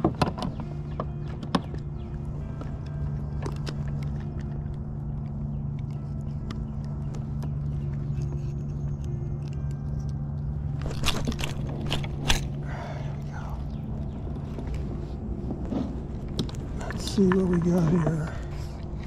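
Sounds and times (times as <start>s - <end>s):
fishing gear clicking and scraping: 0.0s - 19.0s
low hum and rumble: 0.0s - 19.0s.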